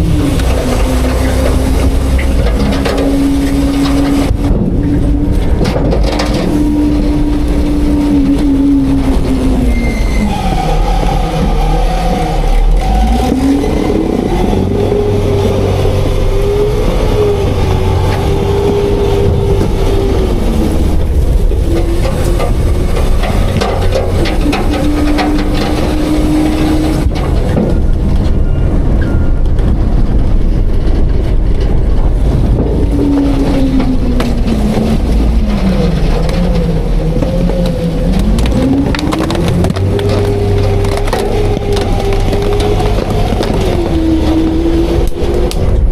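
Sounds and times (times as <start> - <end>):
metal knocks and clanks: 0.0 - 12.1, 17.5 - 45.9
deep engine rumble: 0.0 - 45.9
diesel engine revving with whine: 0.0 - 45.9.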